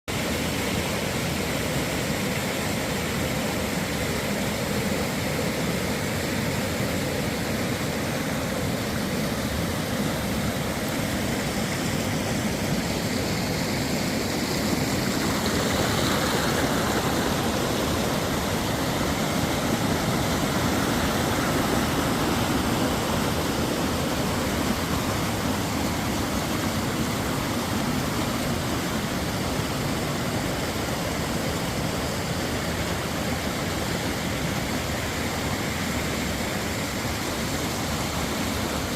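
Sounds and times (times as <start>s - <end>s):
river water flowing: 0.1s - 38.9s.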